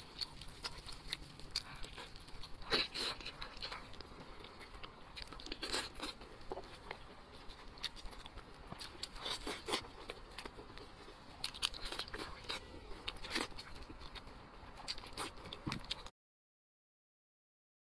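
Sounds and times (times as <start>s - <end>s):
person chewing meat: 0.0s - 16.1s.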